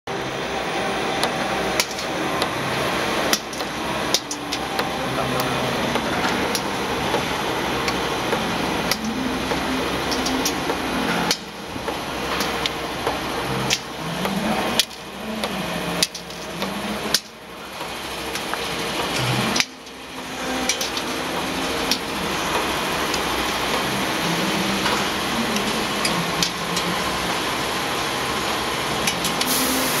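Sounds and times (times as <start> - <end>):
motors whirring: 0.1 - 30.0
steady machine noise: 0.1 - 30.0.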